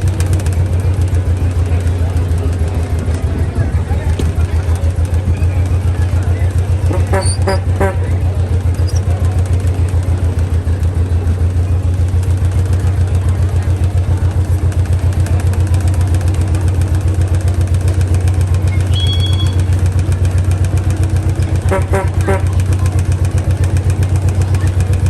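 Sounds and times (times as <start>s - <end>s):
slow pulsing vehicle engine: 0.0s - 25.0s.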